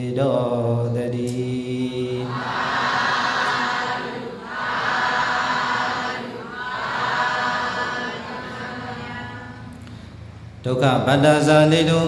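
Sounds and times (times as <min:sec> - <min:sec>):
monk chanting: 0:00.0 - 0:09.6, 0:10.6 - 0:12.0
congregation chanting in unison: 0:00.0 - 0:09.7.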